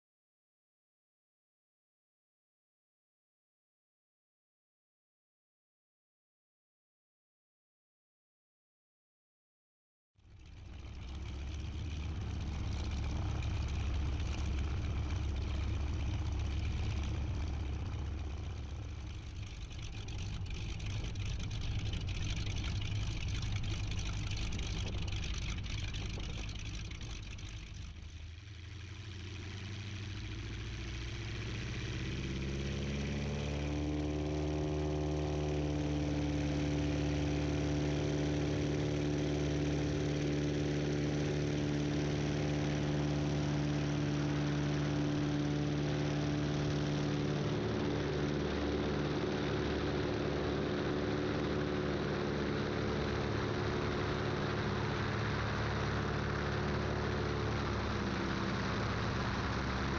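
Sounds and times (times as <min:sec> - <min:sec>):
radial aircraft engine running: 0:10.3 - 0:59.9.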